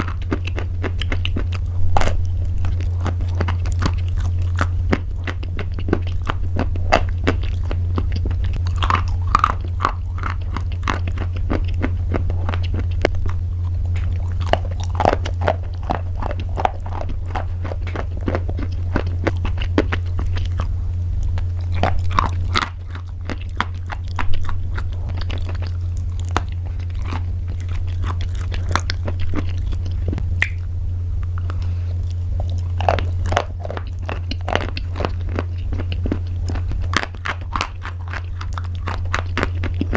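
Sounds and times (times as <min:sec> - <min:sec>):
chewing crunchy pasta: 0:00.0 - 0:39.9
steady low hum: 0:00.0 - 0:39.9.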